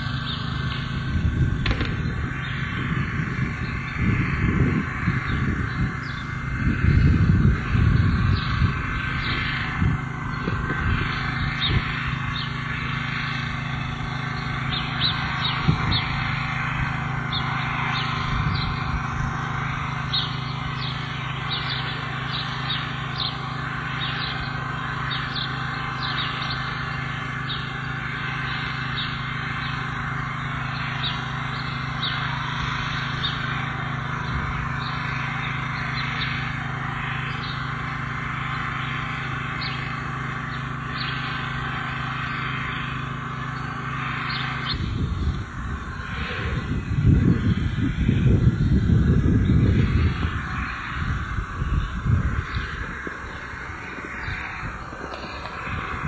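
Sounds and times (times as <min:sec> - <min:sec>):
birds chirping: 0:00.0 - 0:56.0
steady low hum: 0:00.0 - 0:56.0.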